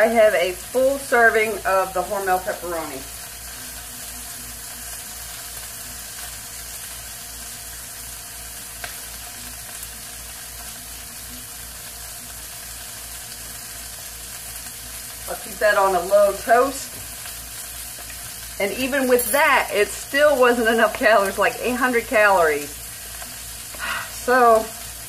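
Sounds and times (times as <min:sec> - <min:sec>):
food sizzling in a skillet: 0:00.0 - 0:25.0.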